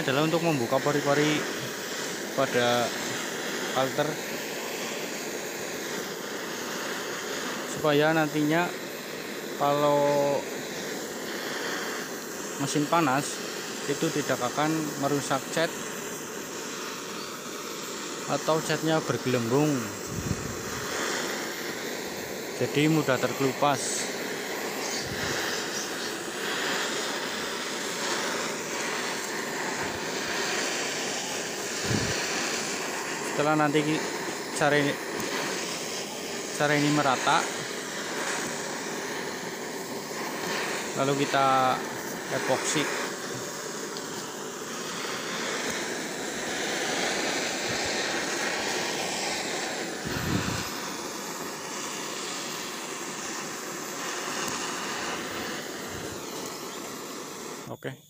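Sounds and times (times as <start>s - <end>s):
gas torch hissing: 0.0s - 58.0s.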